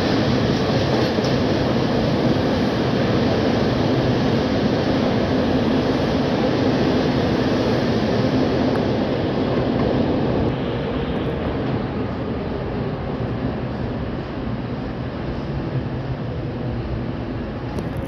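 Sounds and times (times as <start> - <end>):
elevated train rumbling on steel track: 0.0 - 18.0.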